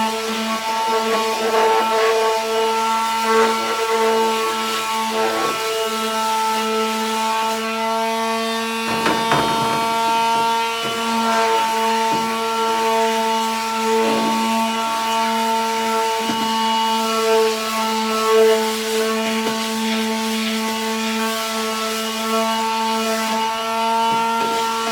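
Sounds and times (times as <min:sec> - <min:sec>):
palm sander motor whine: 0:00.1 - 0:21.2
sandpaper rasping on wood: 0:00.1 - 0:24.9.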